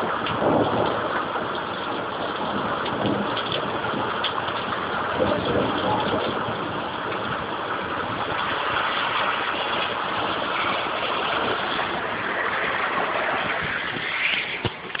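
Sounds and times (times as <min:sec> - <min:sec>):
storm wind gusting: 0:00.0 - 0:15.0.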